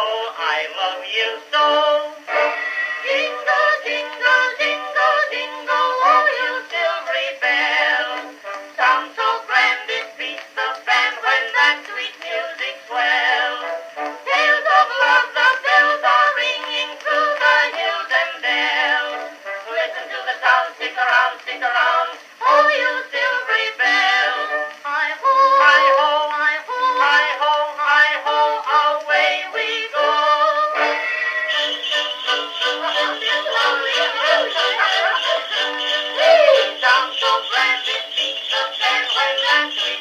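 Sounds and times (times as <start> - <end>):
phonograph playing thin music: 0.0 - 40.0.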